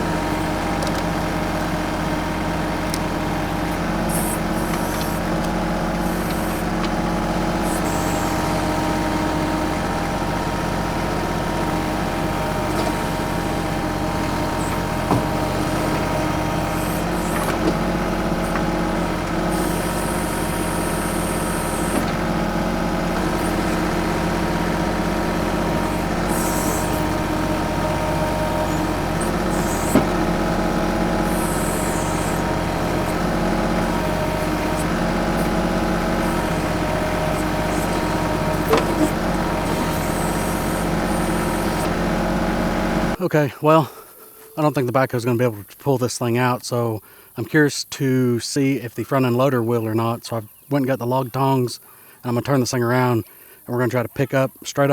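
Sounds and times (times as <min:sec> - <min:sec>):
tractor diesel engine running: 0:00.0 - 0:44.6
hydraulic hissing: 0:00.0 - 0:44.8.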